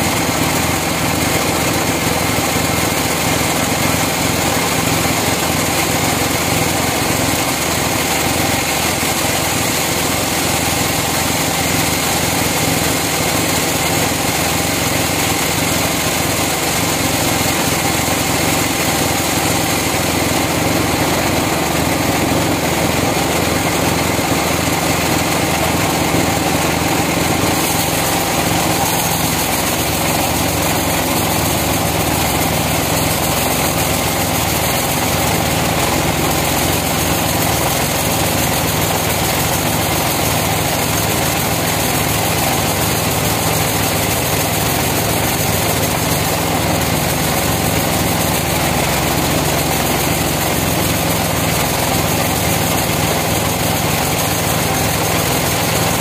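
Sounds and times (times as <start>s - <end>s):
band saw cutting log: 9.5s - 56.0s.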